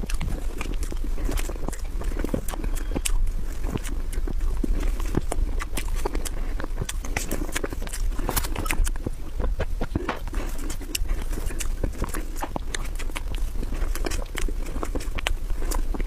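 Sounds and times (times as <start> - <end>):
wet mouth eating sounds: 0.0 - 16.0.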